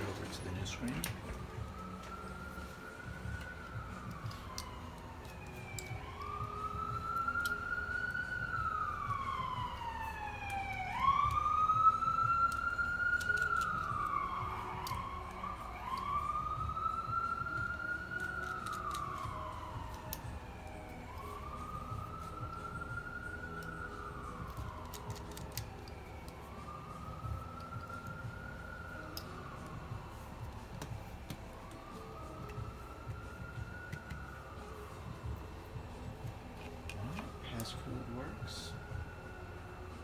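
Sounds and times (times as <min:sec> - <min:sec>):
emergency vehicle siren wailing: 0:00.0 - 0:40.0.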